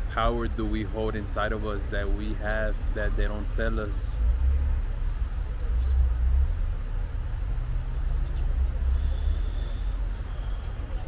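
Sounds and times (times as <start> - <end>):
birds chirping: 0.0 - 11.0
low uneven rumble: 0.0 - 11.0.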